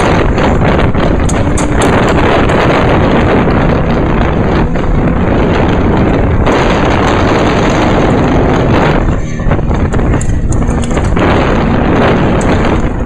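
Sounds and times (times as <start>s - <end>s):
race car engine running hard: 0.0s - 13.0s.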